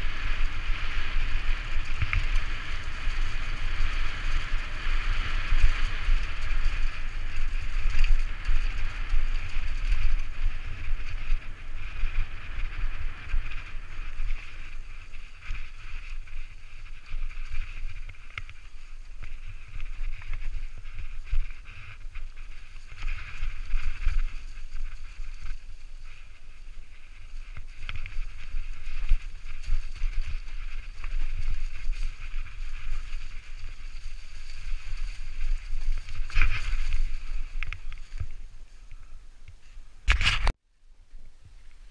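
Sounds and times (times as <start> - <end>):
tyres hissing through dry leaves: 0.0 - 39.2
wind buffeting microphone: 0.0 - 40.6.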